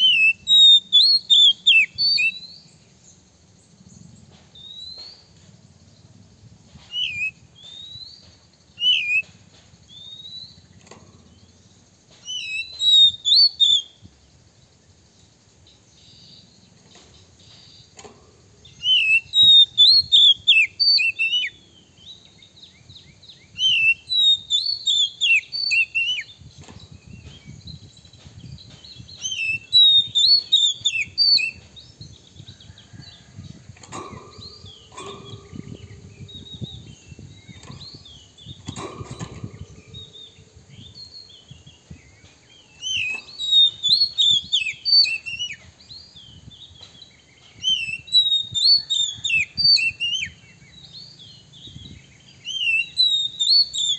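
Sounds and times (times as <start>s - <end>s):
bird singing whistled notes: 0.0s - 53.9s.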